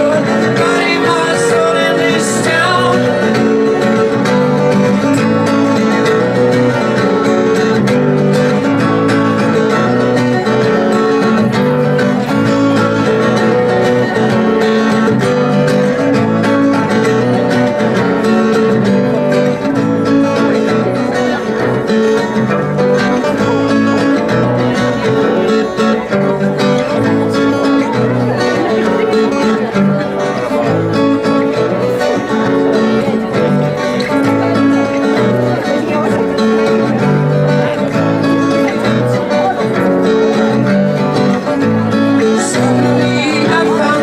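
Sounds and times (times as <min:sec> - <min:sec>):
plucked string instrument playing: 0:00.0 - 0:44.0.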